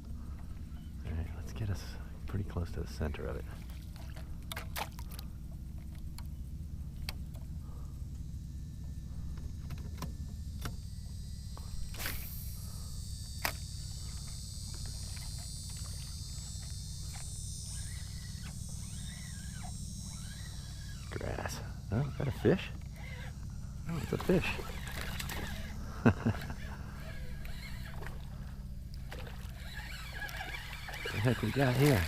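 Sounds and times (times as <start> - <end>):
high insect buzz: 0.0 - 32.0
trolling motor humming: 0.0 - 32.0.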